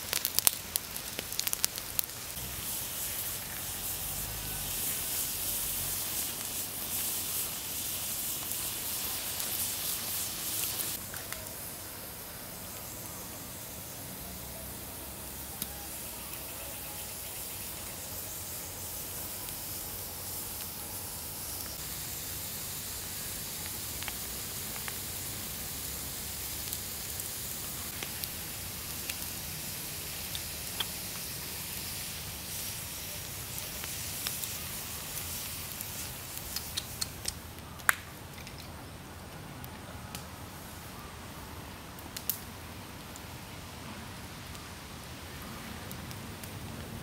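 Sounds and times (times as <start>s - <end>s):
fire hissing and crackling: 0.0s - 47.0s.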